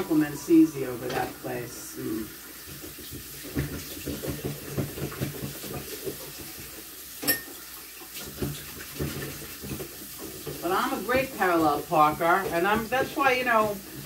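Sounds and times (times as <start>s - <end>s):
kitchen clatter and rustle: 0.0s - 14.0s.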